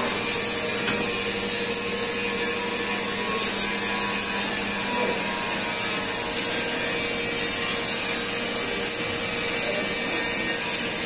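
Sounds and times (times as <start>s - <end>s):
arc welding crackling: 0.0s - 11.0s
steady hum: 0.0s - 11.0s.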